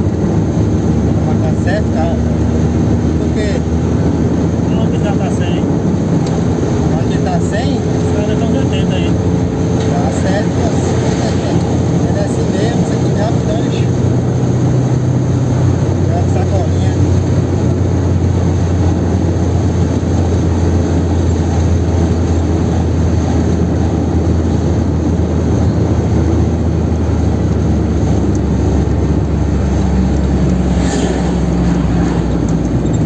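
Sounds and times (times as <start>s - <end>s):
car engine drone: 0.0s - 33.0s.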